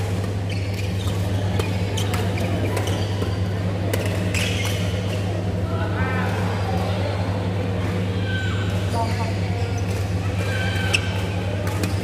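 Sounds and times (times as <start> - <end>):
low hum in large hall: 0.0 - 12.0.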